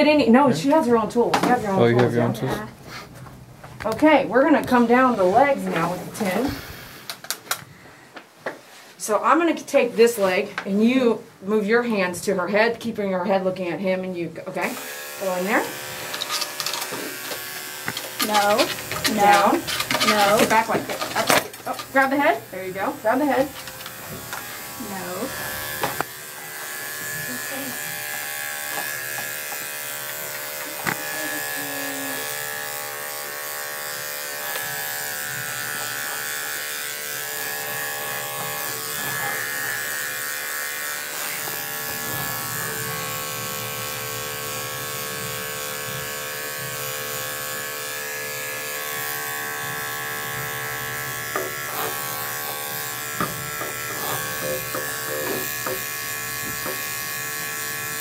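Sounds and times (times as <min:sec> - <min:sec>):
electric clipper buzzing: 0:03.8 - 0:07.6, 0:14.5 - 0:58.0.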